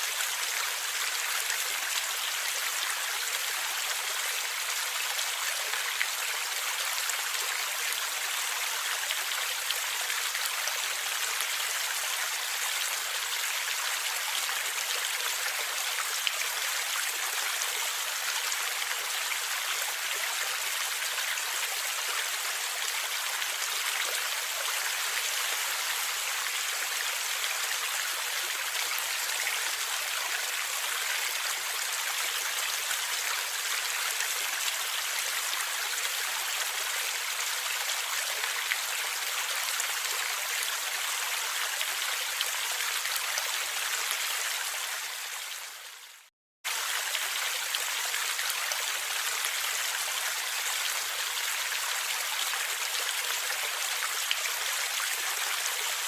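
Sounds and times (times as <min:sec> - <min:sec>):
stream flowing and gurgling: 0:00.0 - 0:56.0.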